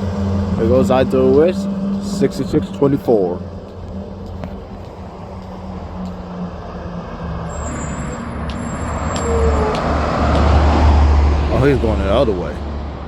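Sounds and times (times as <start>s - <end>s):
garbage truck diesel engine: 0.0s - 13.0s.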